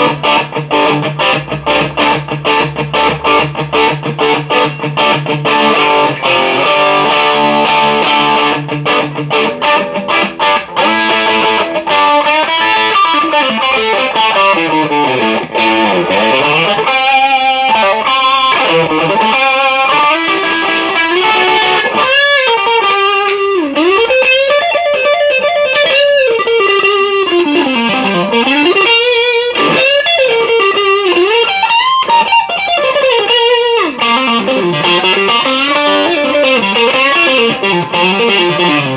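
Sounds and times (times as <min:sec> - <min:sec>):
overdriven electric guitar lead: 0:00.0 - 0:38.9.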